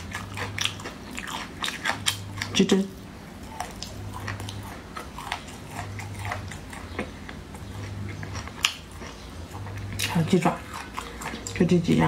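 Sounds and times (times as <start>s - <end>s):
chewing with wet mouth clicks: 0.0s - 2.6s, 3.4s - 12.0s.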